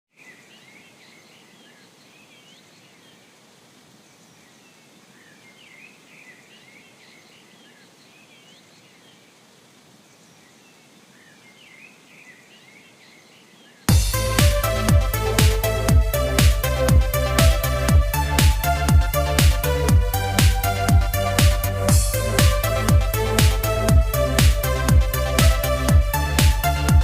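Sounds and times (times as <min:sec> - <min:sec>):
small birds chirping: 0:00.1 - 0:27.0.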